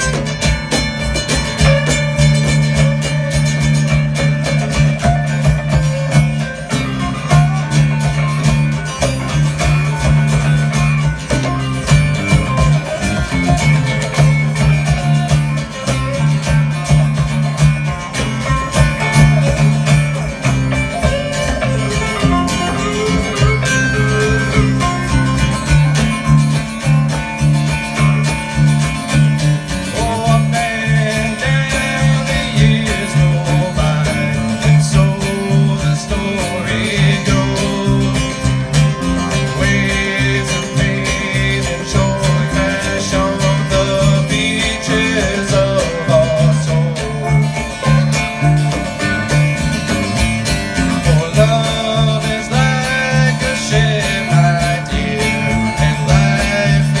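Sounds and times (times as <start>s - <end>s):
acoustic and electric guitars: 0.0s - 57.0s
hand drums: 0.0s - 57.0s.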